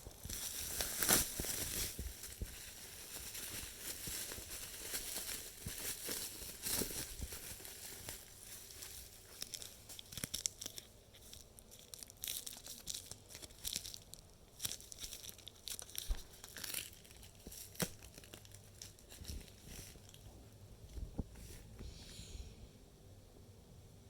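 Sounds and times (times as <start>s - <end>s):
plastic packaging crinkling: 0.0s - 20.3s.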